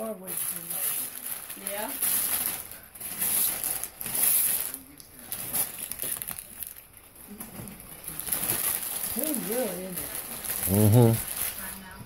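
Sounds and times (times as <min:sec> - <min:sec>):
wrapping paper tearing and crumpling: 0:00.0 - 0:12.0.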